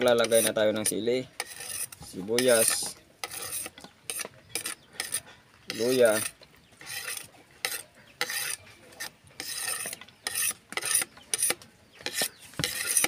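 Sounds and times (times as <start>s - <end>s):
rasping scrapes into bowl: 0.0s - 13.0s.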